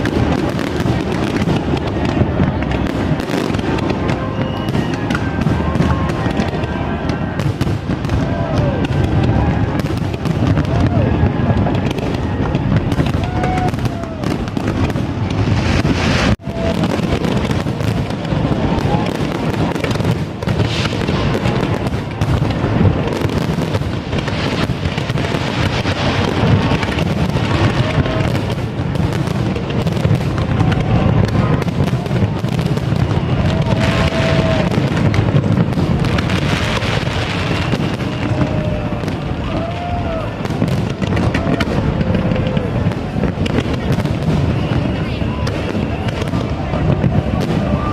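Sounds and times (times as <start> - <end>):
fireworks bursts and booms: 0.0 - 47.9
voices: 0.0 - 47.9.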